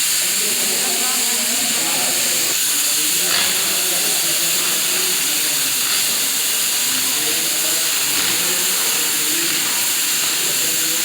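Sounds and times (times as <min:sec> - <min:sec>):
cutting torch hissing: 0:00.0 - 0:11.0.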